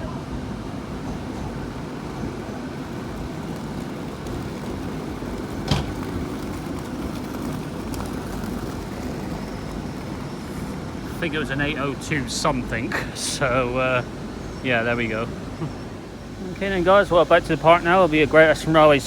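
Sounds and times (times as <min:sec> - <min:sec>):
train diesel engine rumble: 0:00.0 - 0:19.0.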